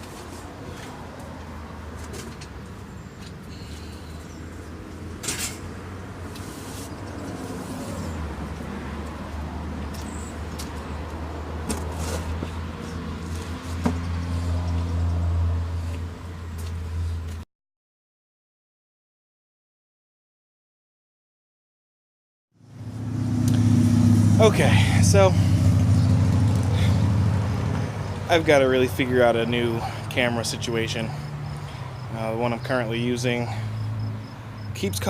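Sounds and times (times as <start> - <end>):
vehicle engine humming: 0.0 - 17.4, 22.6 - 35.0.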